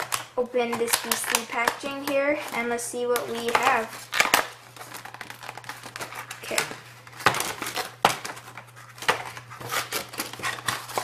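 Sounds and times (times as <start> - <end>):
plastic crinkling and rustling: 0.0 - 11.0
plastic packaging clicks and cracks: 0.0 - 11.0.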